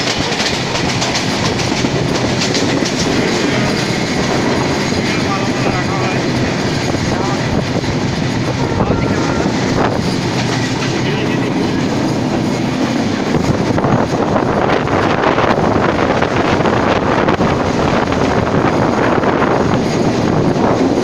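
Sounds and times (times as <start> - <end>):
train wheel and rail rush: 0.0 - 21.0.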